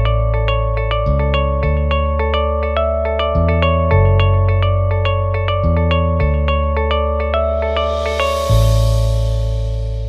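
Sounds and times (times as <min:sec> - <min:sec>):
plucked notes over low bass: 0:00.0 - 0:10.0.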